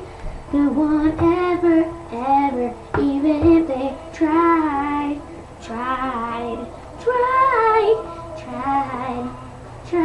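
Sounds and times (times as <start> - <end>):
child singing: 0.5 - 10.0.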